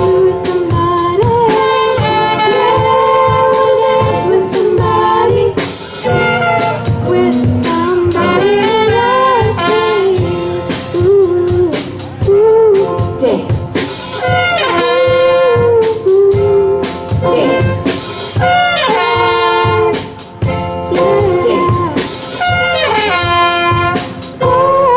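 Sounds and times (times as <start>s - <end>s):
bass: 0.0s - 24.9s
drums: 0.0s - 24.9s
keyboard: 0.0s - 24.9s
saxophone and trumpet melody: 0.0s - 24.9s.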